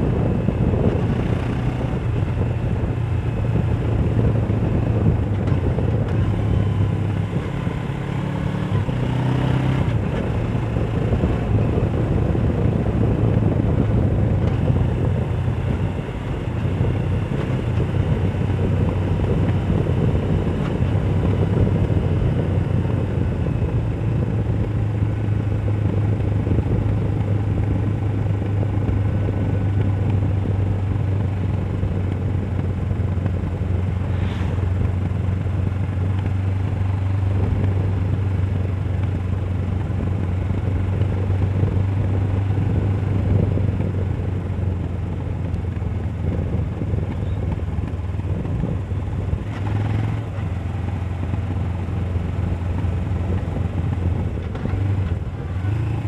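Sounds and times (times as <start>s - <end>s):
motorcycle engine cruising: 0.0s - 56.0s
wind rushing over microphone: 0.0s - 56.0s.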